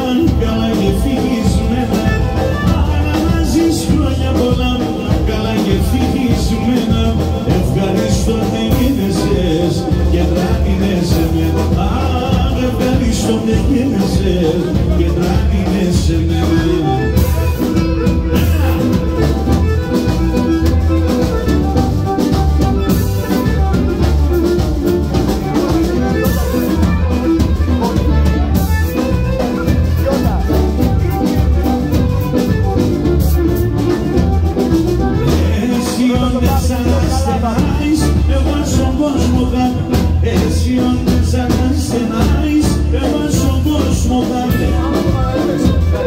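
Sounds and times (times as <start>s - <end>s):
live dance music: 0.0s - 46.0s.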